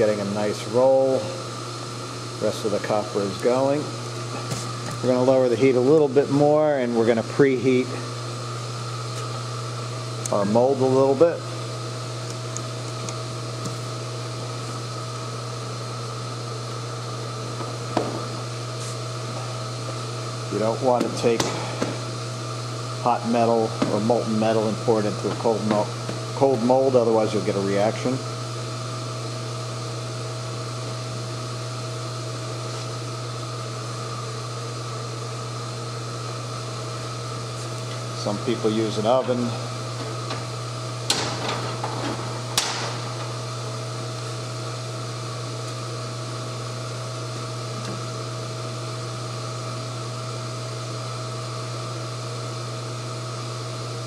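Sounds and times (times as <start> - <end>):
induction melting system humming: 0.0 - 54.0
thin steady whine: 0.0 - 54.0.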